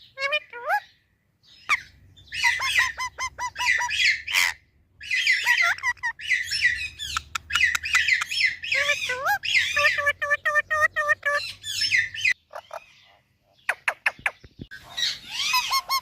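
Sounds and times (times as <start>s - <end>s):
parrot squawking and chirping: 0.0s - 16.0s.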